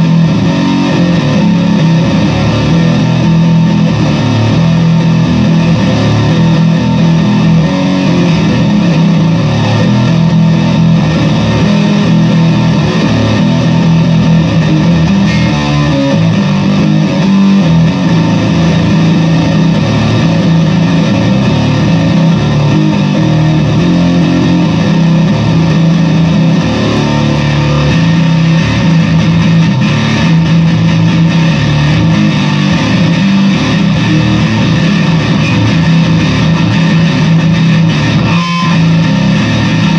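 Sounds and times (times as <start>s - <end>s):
distorted bass guitar riffs: 0.0s - 39.9s.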